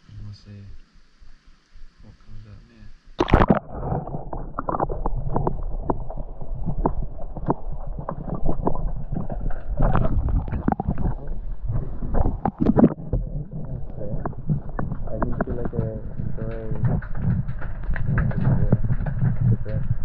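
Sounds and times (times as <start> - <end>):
muffled underwater water rumble: 0.0 - 20.0
sharp underwater clicks and knocks: 3.2 - 20.0.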